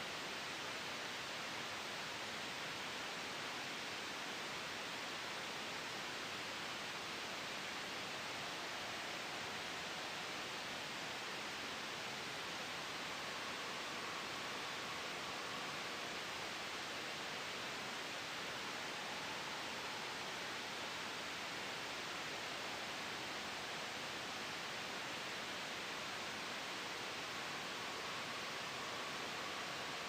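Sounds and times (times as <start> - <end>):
gentle wind hiss: 0.0 - 30.0
white noise: 0.0 - 30.0.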